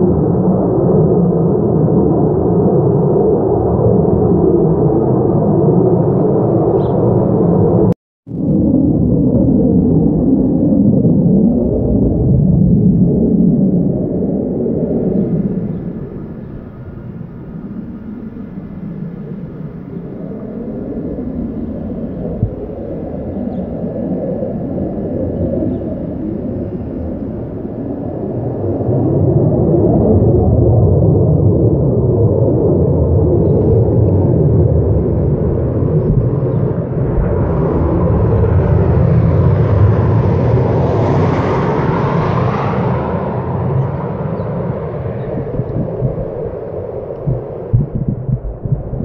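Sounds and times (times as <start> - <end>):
distant jet engine roar: 0.0 - 49.0.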